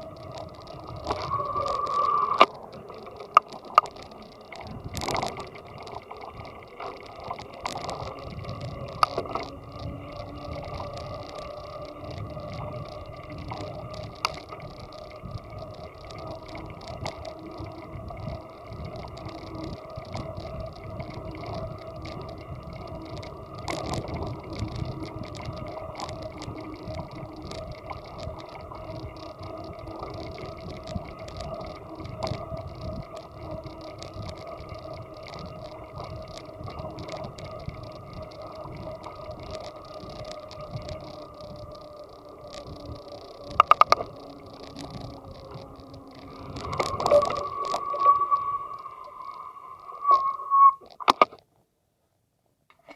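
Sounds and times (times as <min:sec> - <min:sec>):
bicycle clicks and rattles: 0:00.0 - 0:49.4
bicycle riding hum: 0:00.0 - 0:51.2.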